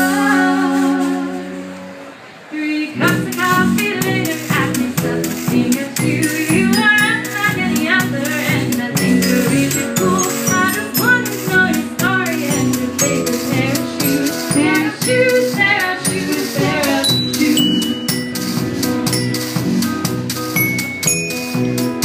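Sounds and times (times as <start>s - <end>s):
live band music: 0.0s - 2.4s, 3.0s - 22.0s
shaker-like percussion rattling: 3.1s - 22.0s.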